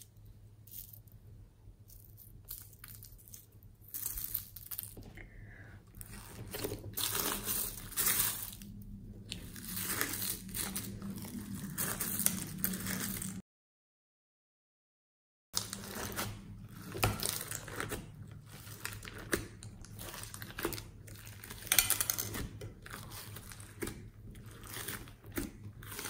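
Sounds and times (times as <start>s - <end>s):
plastic beads crunching in slime: 0.7s - 1.0s, 1.8s - 5.1s, 5.9s - 13.4s, 15.6s - 26.0s.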